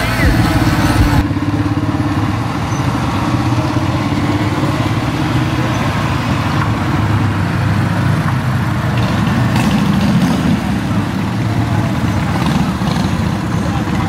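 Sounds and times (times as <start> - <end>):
motorcycle engine: 0.0 - 14.0
vehicle engines running slowly: 0.0 - 14.0.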